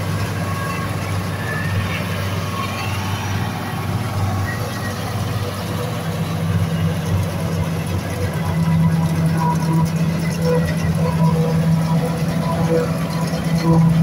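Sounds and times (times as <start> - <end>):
diesel tractor engines idling: 0.0 - 14.0.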